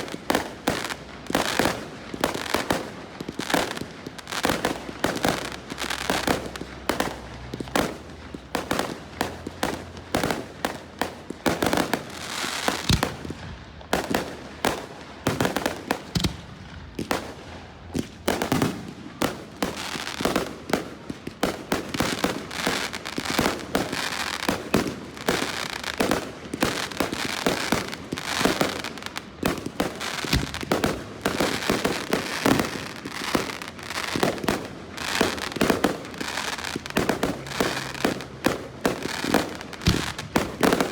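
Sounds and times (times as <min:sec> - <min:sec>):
fireworks bangs and pops: 0:00.0 - 0:40.9
fireworks crackle: 0:00.0 - 0:40.9.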